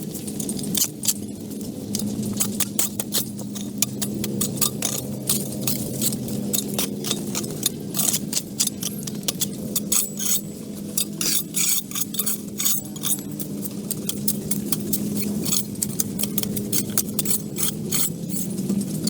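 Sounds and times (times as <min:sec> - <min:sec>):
hard objects clinking and scraping: 0:00.0 - 0:19.0
steady mechanical hum: 0:00.0 - 0:19.0.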